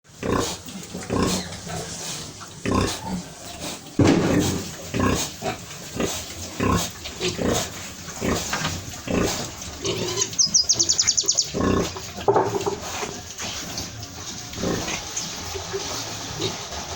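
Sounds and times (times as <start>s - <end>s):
pigs grunting: 0.1s - 16.9s.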